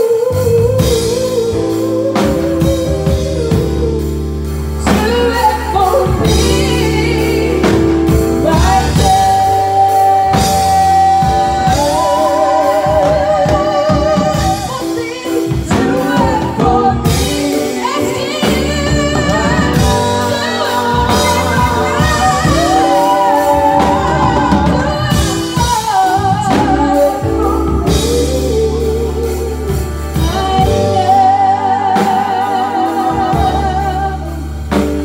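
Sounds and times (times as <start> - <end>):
instrumental accompaniment: 0.0 - 35.0
women singing gospel: 0.0 - 35.0.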